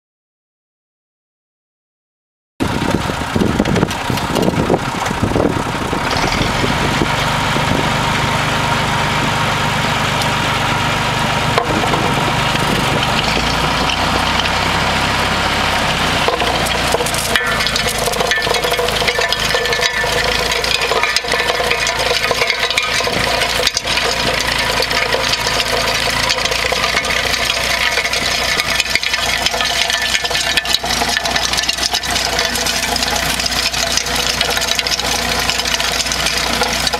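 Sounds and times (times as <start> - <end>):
tractor engine running: 2.6 - 36.9.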